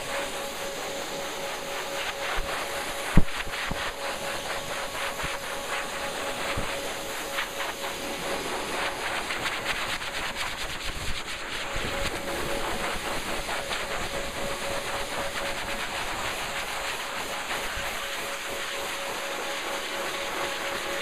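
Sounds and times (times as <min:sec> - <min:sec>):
dryer blowing air with whine: 0:00.0 - 0:21.0.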